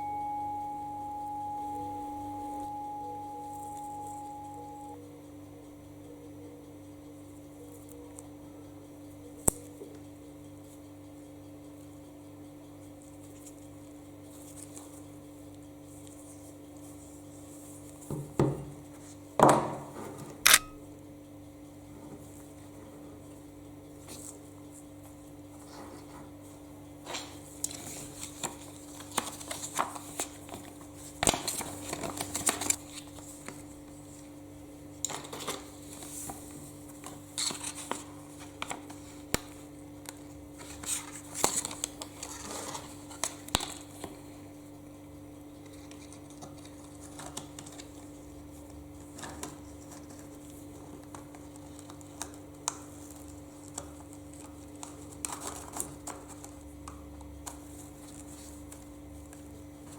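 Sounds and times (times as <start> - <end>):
steady electrical hum: 0.0 - 59.9.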